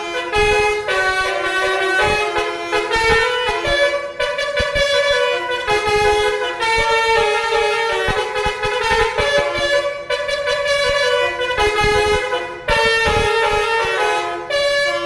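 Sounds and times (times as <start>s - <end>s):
musical air horn playing a tune: 0.0s - 15.0s.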